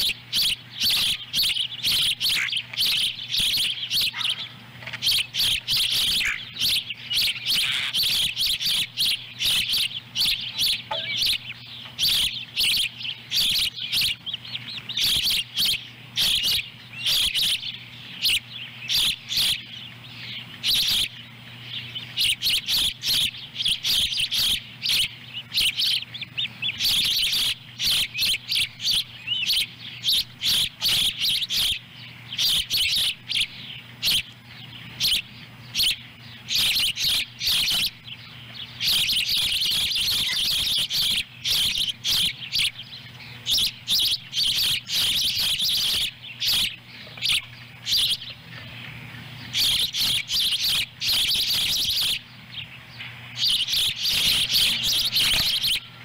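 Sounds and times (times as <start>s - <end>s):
juvenile ospreys chirping: 0.0s - 56.0s.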